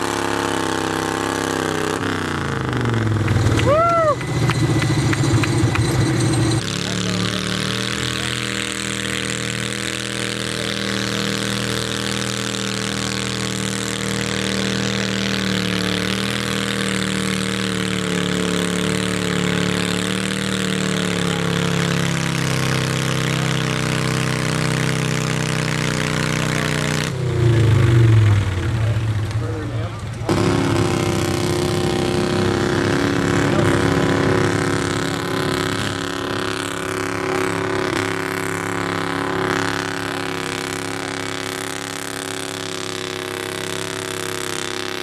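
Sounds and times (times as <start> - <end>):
garden tractor engine running hard: 0.0 - 45.0.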